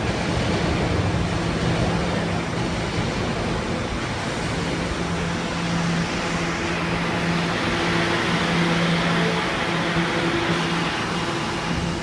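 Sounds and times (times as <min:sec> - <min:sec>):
constant humming tones: 0:00.0 - 0:12.0
subway train rumble and hum: 0:00.0 - 0:12.0.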